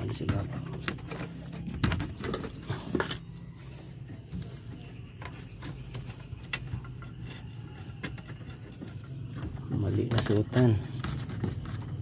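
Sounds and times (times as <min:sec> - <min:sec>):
parts clicking and knocking: 0:00.0 - 0:12.0
steady low hum: 0:00.0 - 0:12.0.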